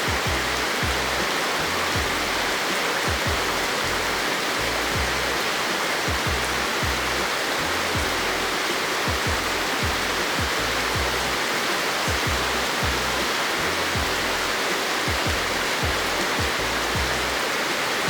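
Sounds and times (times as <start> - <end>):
kick drum and bass music: 0.0 - 5.4, 6.1 - 11.4, 12.1 - 17.4
rain falling: 0.0 - 18.0.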